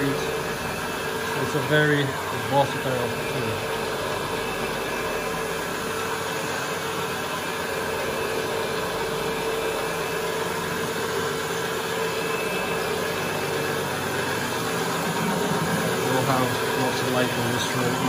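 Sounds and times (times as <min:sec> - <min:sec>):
carpet machine whirring: 0:00.0 - 0:18.0.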